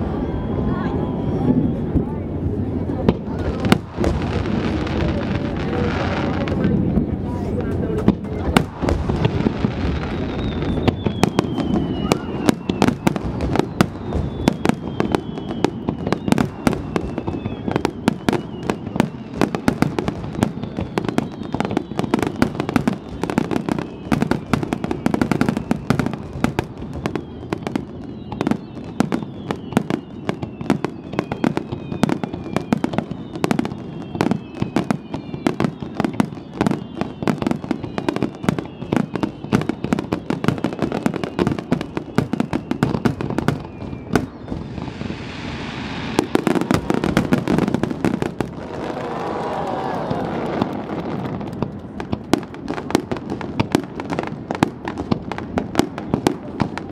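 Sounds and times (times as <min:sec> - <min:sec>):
falling firework whistles: 0:00.0 - 0:02.5, 0:08.1 - 0:56.9
fireworks bangs: 0:00.0 - 0:56.9.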